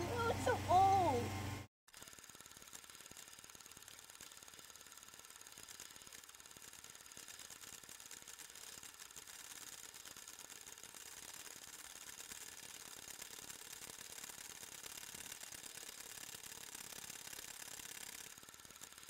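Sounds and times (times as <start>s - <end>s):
film projector clatter: 0.0s - 19.0s.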